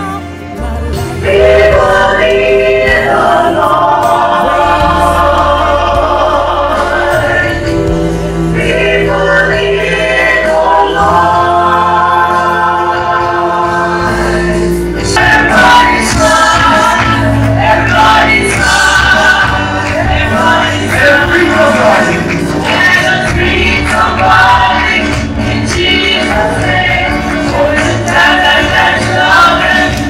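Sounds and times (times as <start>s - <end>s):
gospel choir singing: 0.0s - 30.0s
instrumental backing with bass line: 0.0s - 30.0s.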